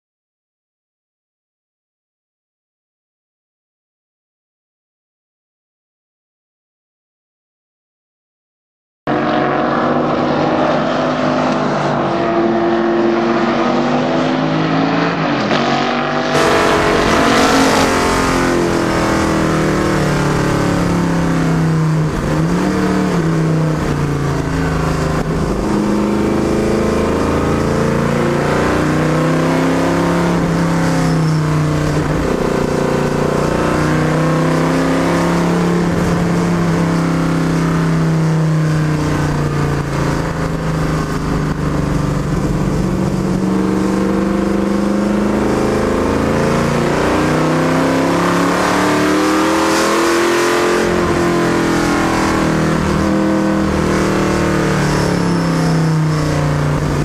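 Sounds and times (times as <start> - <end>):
race car engine revving: 9.1 - 57.0.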